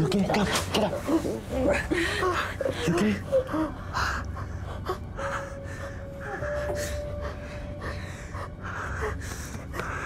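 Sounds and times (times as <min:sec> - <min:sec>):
person gasping and sobbing: 0:01.0 - 0:10.0.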